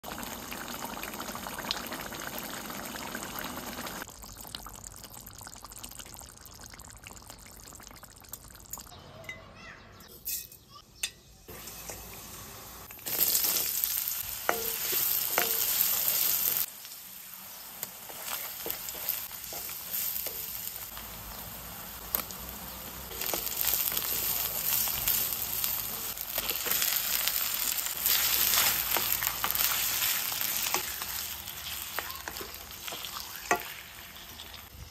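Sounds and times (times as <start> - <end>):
food sizzling in hot oil: 0.0 - 8.9, 11.5 - 34.9.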